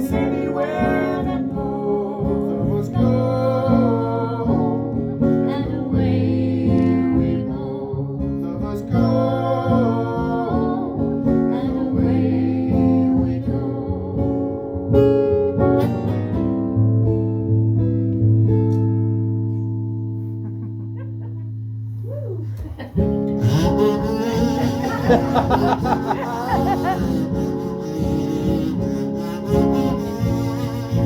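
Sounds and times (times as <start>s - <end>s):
acoustic guitar strumming chords: 0.0s - 21.9s, 22.9s - 31.0s.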